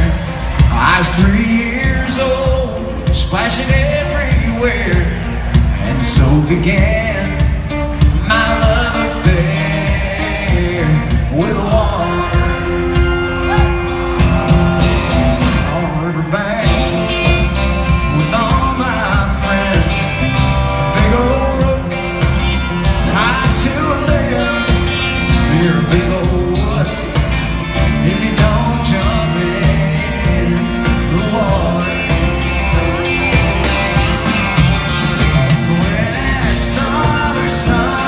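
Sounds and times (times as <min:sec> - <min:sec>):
live country band playing: 0:00.0 - 0:38.0.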